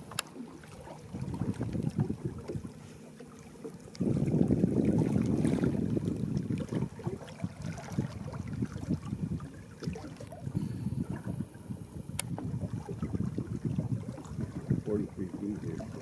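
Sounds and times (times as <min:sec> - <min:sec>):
water lapping against boat hull: 0:00.0 - 0:16.0
wind buffeting microphone: 0:01.0 - 0:02.8, 0:03.9 - 0:16.0.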